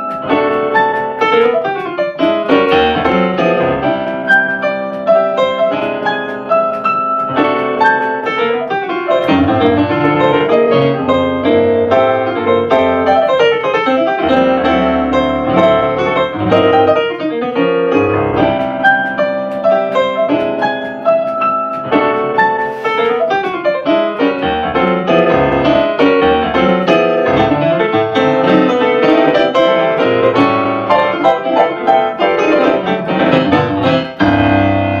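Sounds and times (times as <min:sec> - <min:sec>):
solo jazz piano: 0:00.0 - 0:35.0.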